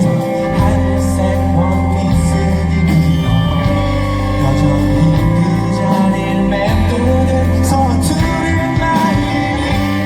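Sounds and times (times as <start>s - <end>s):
live pop-rock band playing: 0.0s - 10.0s.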